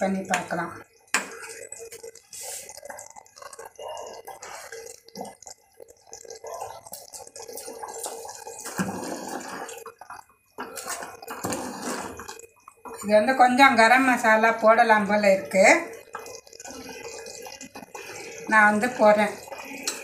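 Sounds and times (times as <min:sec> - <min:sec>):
curry bubbling at a simmer: 0:00.0 - 0:20.0
ladle stirring: 0:00.0 - 0:20.0.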